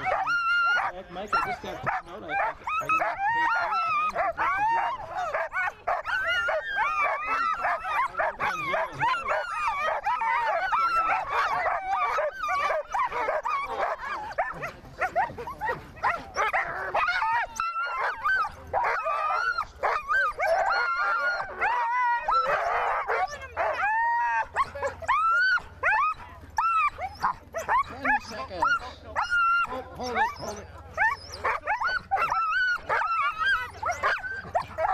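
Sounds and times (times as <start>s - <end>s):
sled dogs barking: 0.0s - 34.9s.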